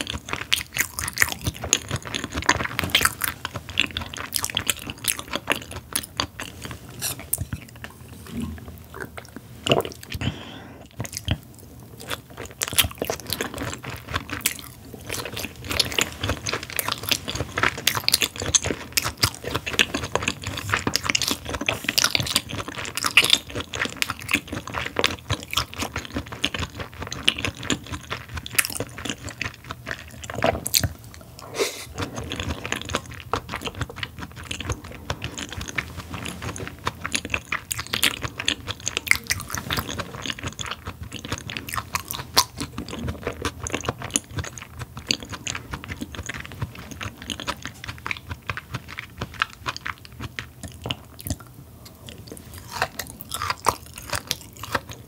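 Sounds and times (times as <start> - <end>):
chewing with mouth clicks: 0.0 - 55.0.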